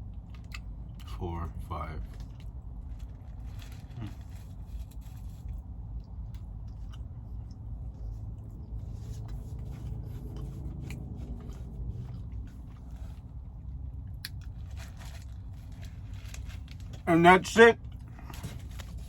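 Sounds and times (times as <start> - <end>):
low rumble inside car: 0.0 - 19.0.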